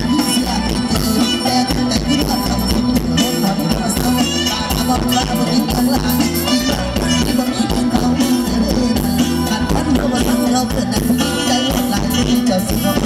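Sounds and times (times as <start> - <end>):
live stage band music: 0.0 - 13.0.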